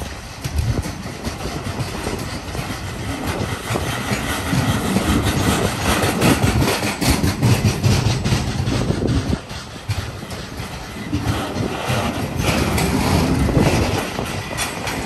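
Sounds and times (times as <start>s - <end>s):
freight wagons rumbling past: 0.0s - 15.0s
wheels clicking over rails: 0.0s - 15.0s.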